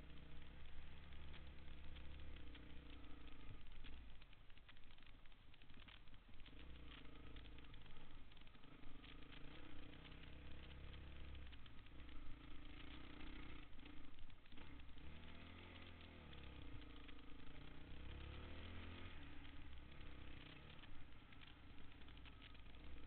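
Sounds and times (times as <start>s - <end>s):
dirt bike engine: 0.0s - 23.0s.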